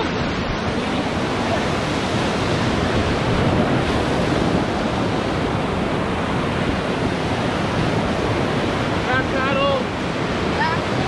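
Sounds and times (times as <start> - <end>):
river rapids roaring: 0.0 - 11.0.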